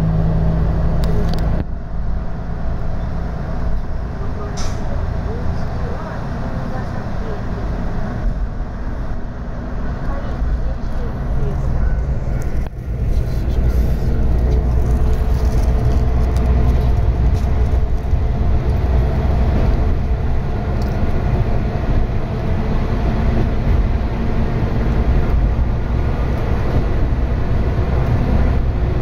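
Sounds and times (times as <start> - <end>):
railcar engine and wheels drone: 0.0 - 29.0.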